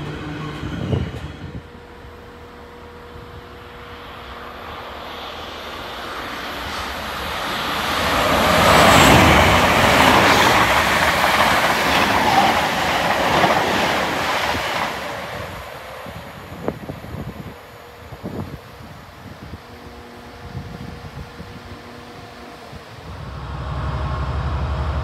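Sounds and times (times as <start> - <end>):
electric train passing at speed: 0.0 - 25.0.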